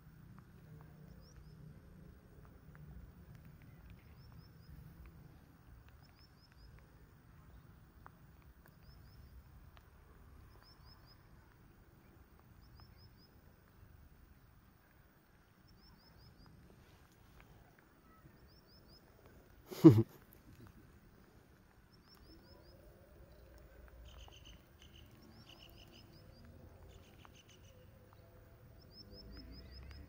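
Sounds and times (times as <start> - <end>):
faint high chirps: 3.3 - 30.0.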